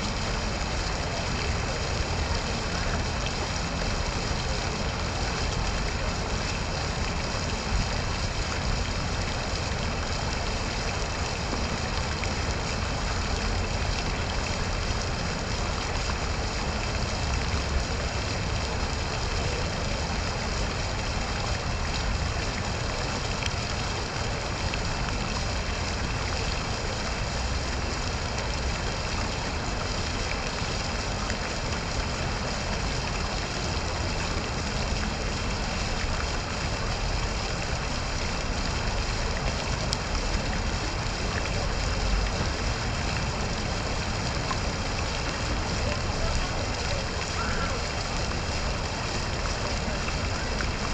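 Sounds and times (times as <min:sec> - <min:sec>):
fountain water splashing: 0:00.0 - 0:50.9.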